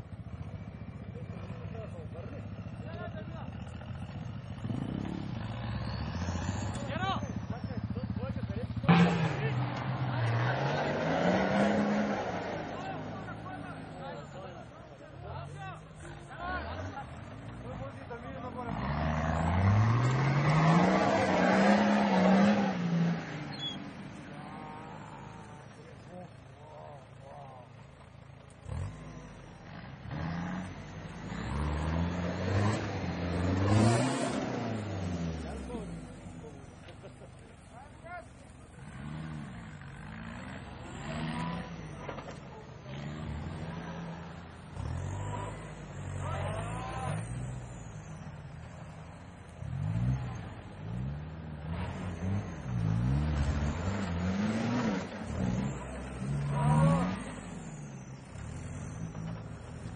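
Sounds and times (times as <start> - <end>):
truck engine revving hard: 0.0 - 14.6, 15.4 - 26.4, 28.6 - 37.4, 38.7 - 59.9.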